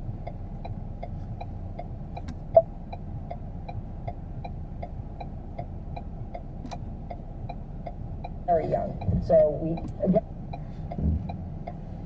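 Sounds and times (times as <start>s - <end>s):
low steady cabin hum: 0.0s - 12.0s
turn signal ticking: 0.0s - 12.0s.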